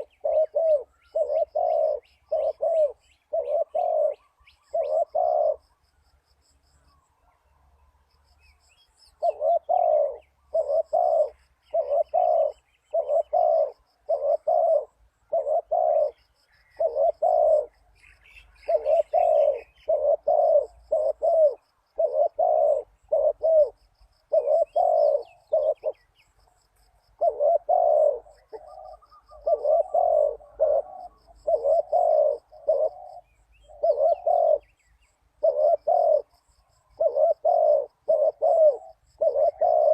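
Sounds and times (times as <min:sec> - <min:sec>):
dove cooing: 0:00.0 - 0:05.8, 0:09.0 - 0:39.9
small birds chirping: 0:00.0 - 0:39.9.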